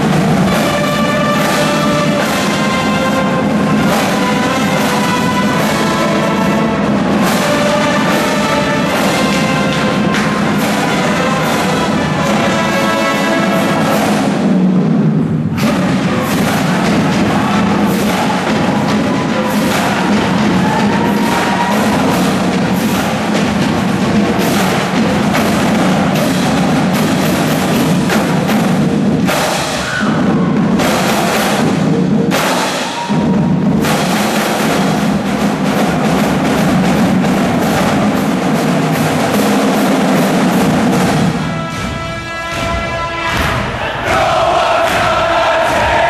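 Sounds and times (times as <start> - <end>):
marching bass drums: 0.0 - 46.0
snare drums playing: 0.0 - 46.0.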